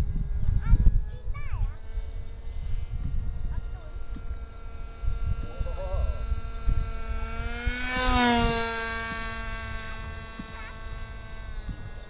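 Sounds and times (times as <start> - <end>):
model airplane engine drone: 0.0 - 12.0
wind on microphone: 0.0 - 12.0.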